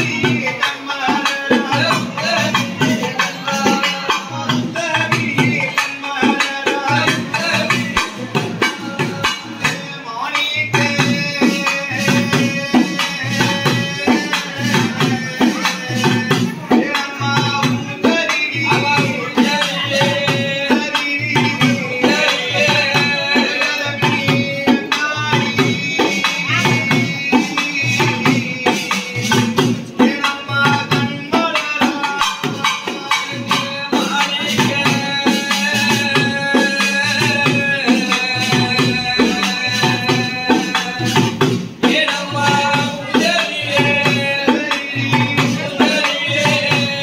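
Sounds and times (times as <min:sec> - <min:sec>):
drums beating fast rhythm: 0:00.0 - 0:47.0.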